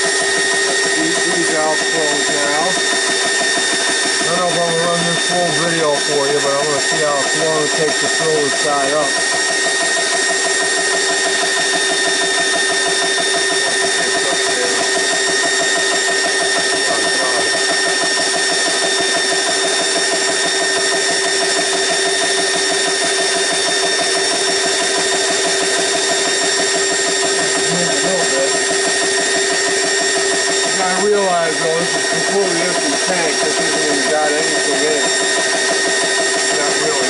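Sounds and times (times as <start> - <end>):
air compressor running: 0.0 - 37.0.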